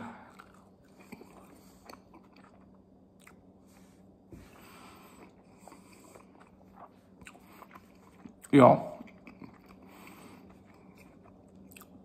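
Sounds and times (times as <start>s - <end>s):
chewing crispy food: 0.2s - 3.8s, 5.0s - 12.0s.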